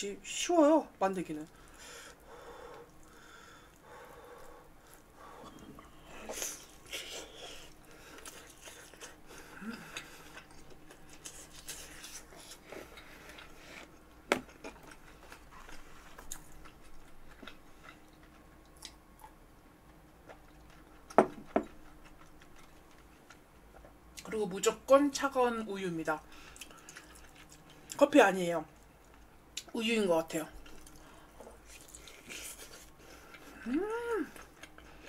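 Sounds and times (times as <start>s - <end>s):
chewing and crunching food: 1.4s - 24.4s, 26.3s - 28.1s, 28.7s - 35.0s.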